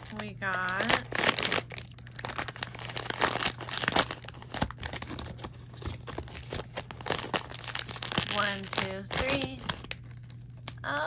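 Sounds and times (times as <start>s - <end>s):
packaging tearing: 0.0s - 10.8s
plastic packaging crinkling: 0.0s - 11.0s.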